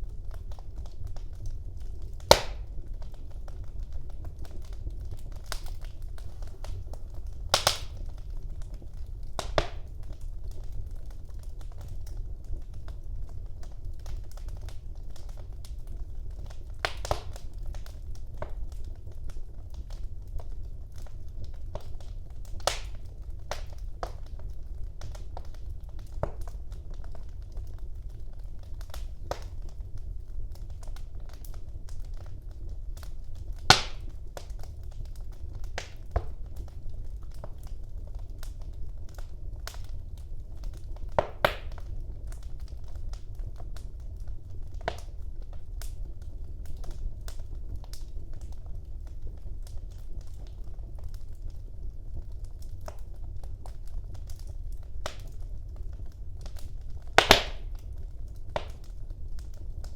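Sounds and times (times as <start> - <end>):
low fire rumble: 0.0 - 59.9
wood fire crackling and popping: 0.0 - 59.9.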